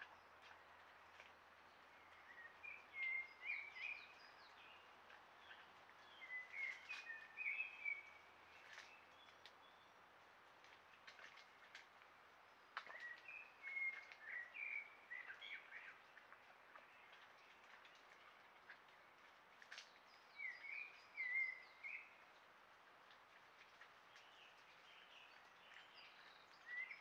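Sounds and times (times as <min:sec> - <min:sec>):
songbird singing: 0:00.0 - 0:10.0, 0:12.5 - 0:22.3, 0:23.9 - 0:27.0
low steady hiss: 0:00.0 - 0:27.0.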